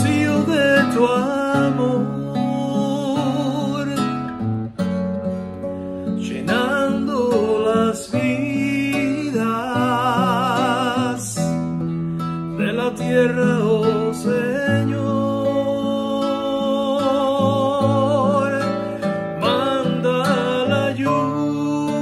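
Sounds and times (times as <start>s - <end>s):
man singing: 0.0s - 4.6s, 6.0s - 11.7s, 12.5s - 22.0s
classical guitar chords: 0.0s - 22.0s.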